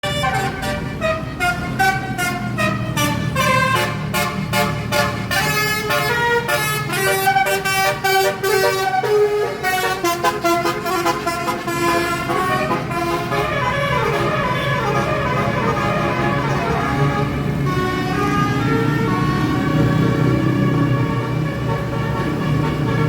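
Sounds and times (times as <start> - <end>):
engine humming: 0.0 - 23.0
musical horn playing a tune: 0.0 - 23.0.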